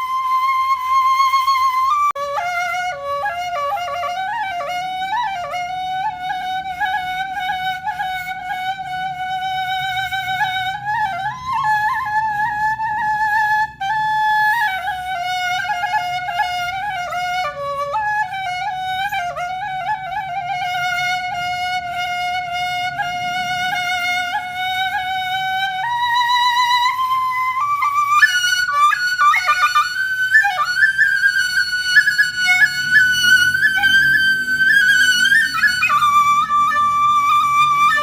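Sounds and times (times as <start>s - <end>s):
flute-like woodwind melody: 0.0s - 38.0s.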